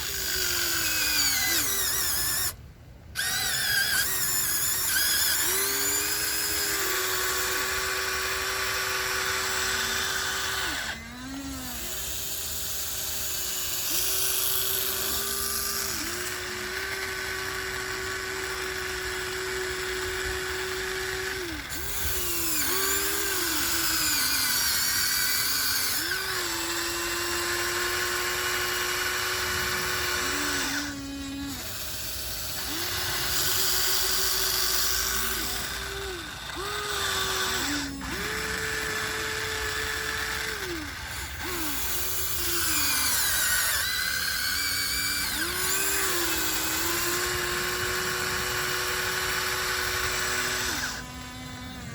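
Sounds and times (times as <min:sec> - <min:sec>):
electric motors whining: 0:00.0 - 0:51.9.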